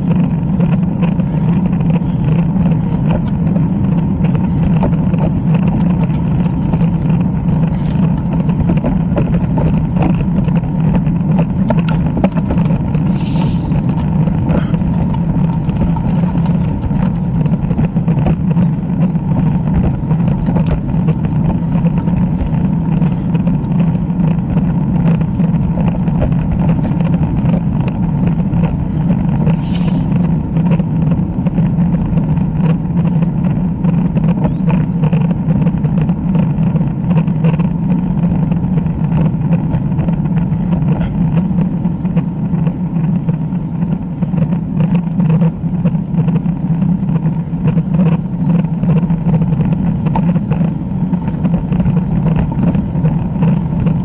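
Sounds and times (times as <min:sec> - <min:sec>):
bicycle road noise: 0:00.0 - 0:54.0
wind noise: 0:00.0 - 0:54.0.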